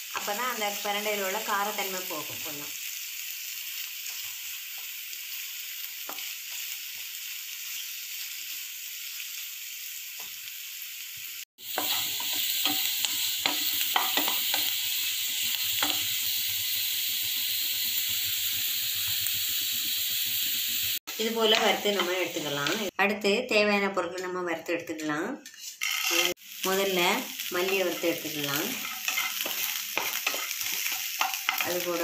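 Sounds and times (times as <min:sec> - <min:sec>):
stems sizzling in hot oil: 0:00.0 - 0:23.0, 0:25.5 - 0:32.0.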